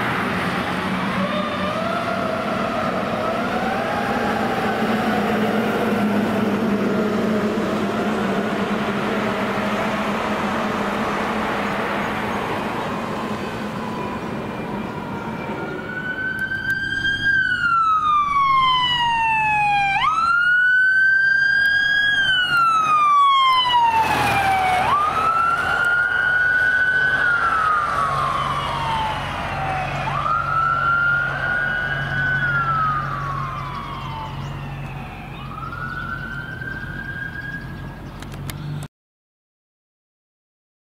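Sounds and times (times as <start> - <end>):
fire engine passing: 0.0 - 38.9
low engine hum: 0.0 - 38.9
electronic emergency siren wailing: 0.9 - 38.0.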